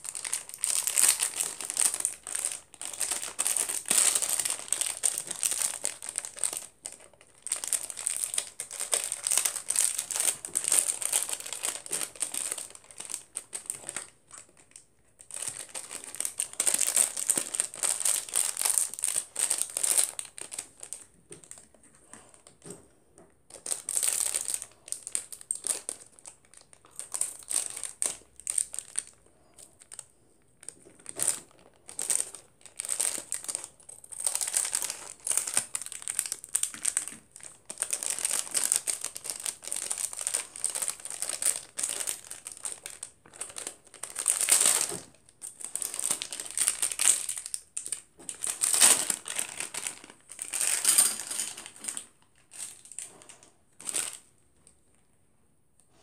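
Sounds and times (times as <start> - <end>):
plastic packaging crinkling: 0.0 - 22.6, 23.5 - 54.3.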